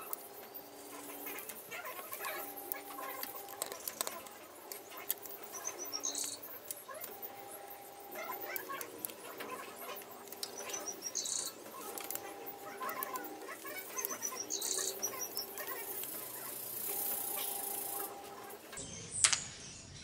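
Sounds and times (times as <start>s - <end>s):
hex key clicking and scraping: 0.0s - 18.8s
high bird-like chirps: 0.0s - 20.0s.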